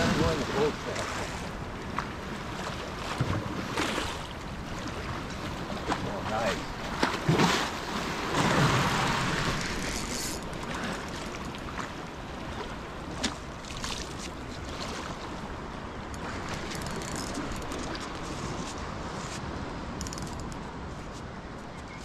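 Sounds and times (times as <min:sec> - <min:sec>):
water lapping against pier: 0:00.0 - 0:22.0.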